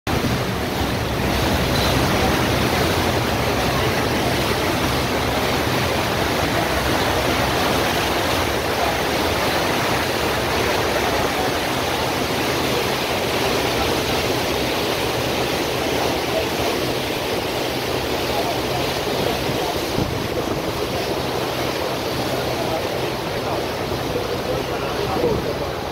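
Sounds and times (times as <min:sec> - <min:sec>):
water rushing in boat wake: 0:00.0 - 0:25.9.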